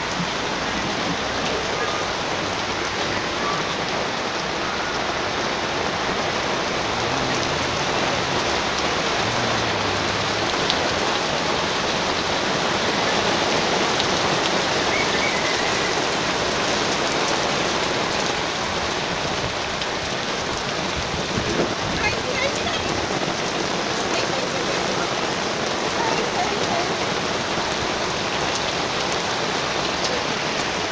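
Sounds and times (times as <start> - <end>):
rain on paving stones: 0.0 - 30.9.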